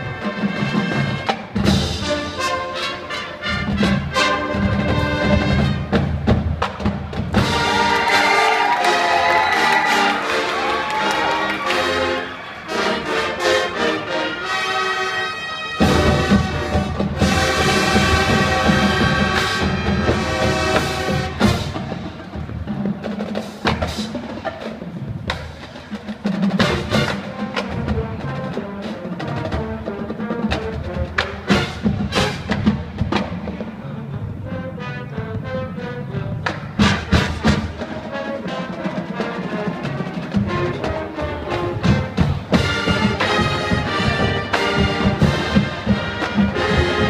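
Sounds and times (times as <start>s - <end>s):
wind band playing: 0.0s - 47.0s.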